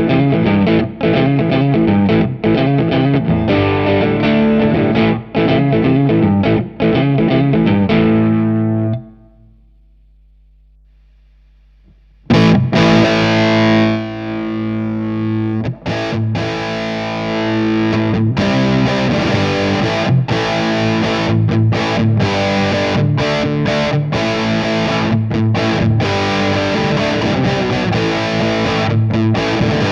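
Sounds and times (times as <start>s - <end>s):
distorted electric guitar: 0.0s - 10.0s, 10.9s - 29.9s
faint amp hum: 0.0s - 29.9s.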